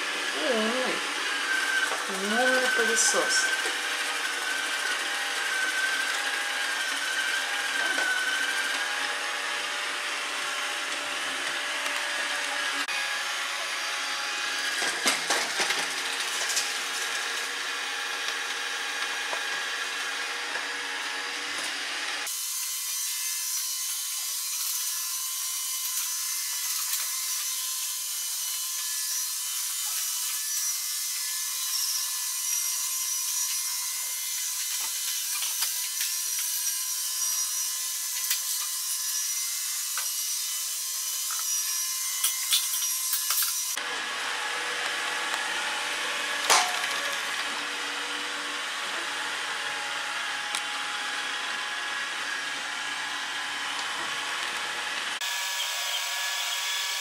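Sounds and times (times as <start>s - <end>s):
robot vacuum cleaner whirring: 0.0s - 57.0s.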